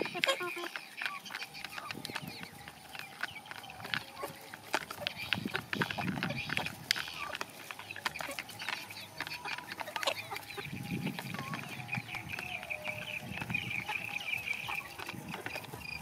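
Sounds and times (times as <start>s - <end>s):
beaks pecking on plastic: 0.0s - 16.0s
chicks peeping: 0.0s - 16.0s.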